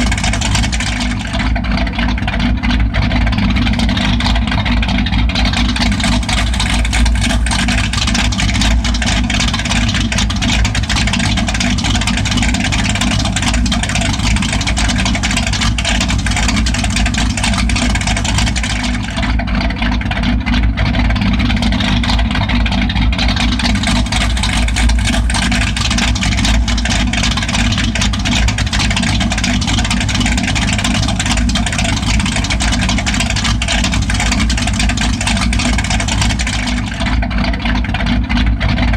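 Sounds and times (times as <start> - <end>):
truck idling loudly: 0.0 - 38.9.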